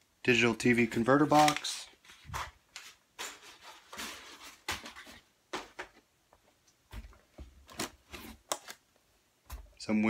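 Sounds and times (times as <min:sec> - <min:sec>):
plastic and cardboard rustling: 0:00.6 - 0:08.8.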